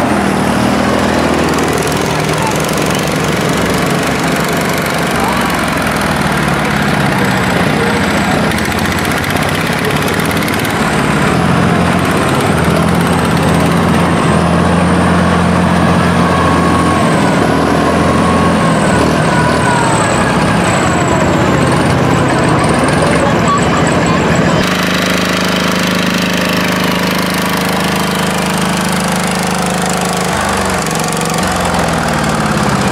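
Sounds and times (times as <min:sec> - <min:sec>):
tractor engine running under load: 0:00.0 - 0:32.9.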